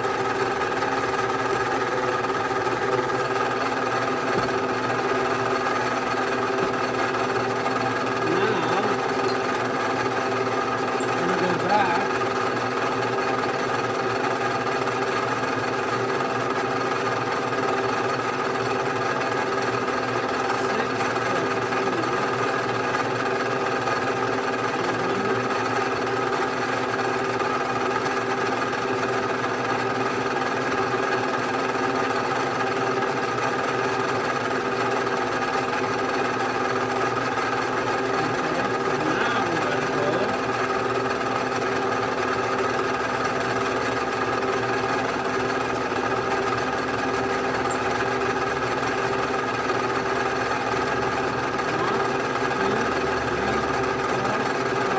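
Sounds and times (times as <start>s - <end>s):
milling machine humming: 0.0s - 54.9s.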